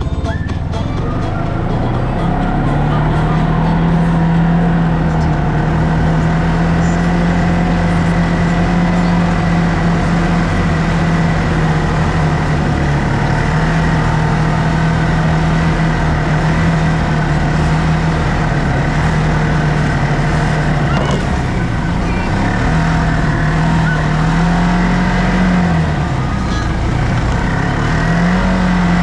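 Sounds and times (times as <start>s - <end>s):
vehicle engine humming while driving: 0.0s - 29.0s.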